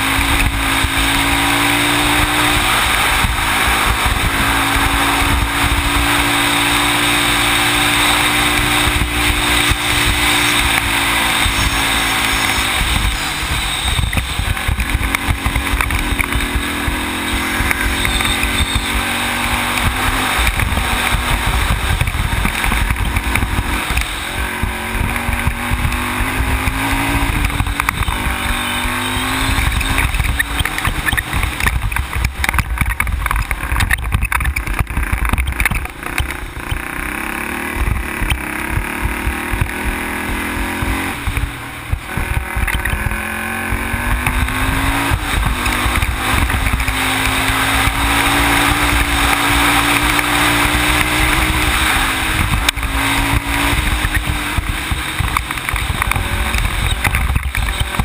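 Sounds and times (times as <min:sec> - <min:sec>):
atv engine accelerating: 0:00.0 - 0:58.0
wind and road noise: 0:00.0 - 0:58.0.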